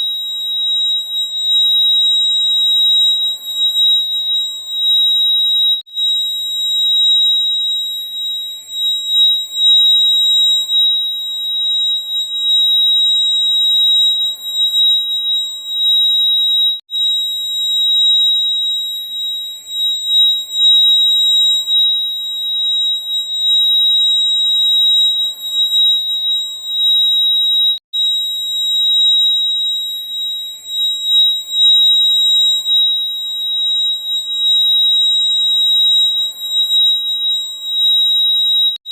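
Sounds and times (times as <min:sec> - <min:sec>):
fire alarm high-pitched tone: 0:00.0 - 0:38.9.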